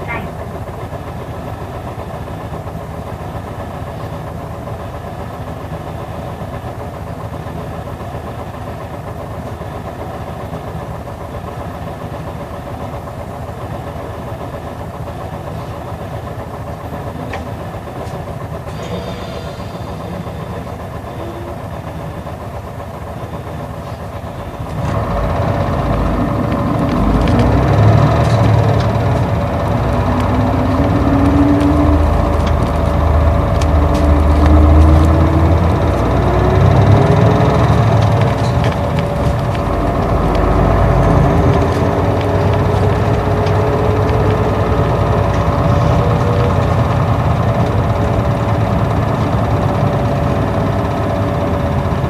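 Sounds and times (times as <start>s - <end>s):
bus diesel engine idling: 0.0s - 52.0s
bus engine revving: 0.0s - 52.0s.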